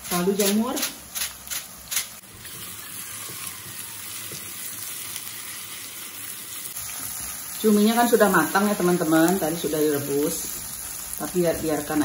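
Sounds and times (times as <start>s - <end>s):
squid sizzling in a wok: 0.0s - 12.0s.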